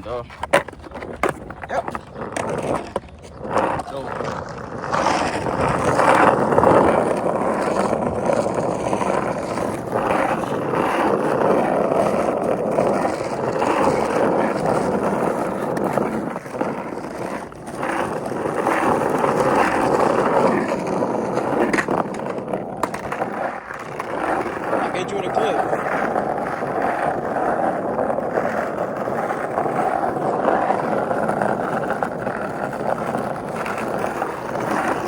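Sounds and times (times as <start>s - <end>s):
skateboard wheels rolling on pavement: 0.0s - 35.0s.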